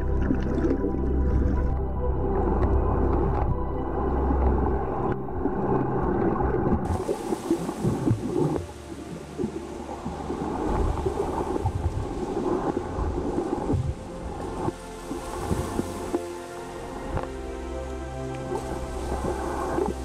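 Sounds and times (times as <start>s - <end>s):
muffled underwater water gurgling: 0.0s - 20.0s.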